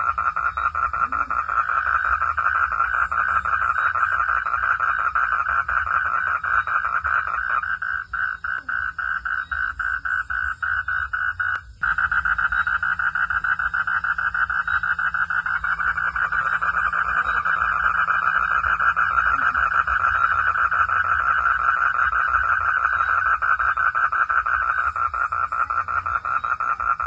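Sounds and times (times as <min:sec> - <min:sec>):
frogs calling in chorus: 0:00.0 - 0:27.0.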